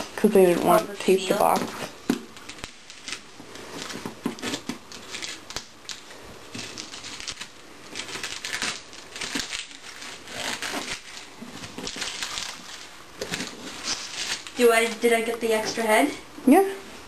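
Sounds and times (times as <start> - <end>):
packing tape tearing off cardboard: 0.0 - 15.3.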